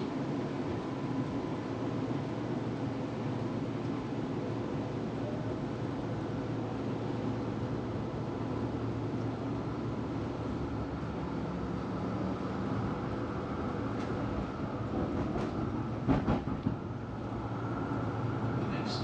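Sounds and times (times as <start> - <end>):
tram rumbling on track: 0.0 - 19.0.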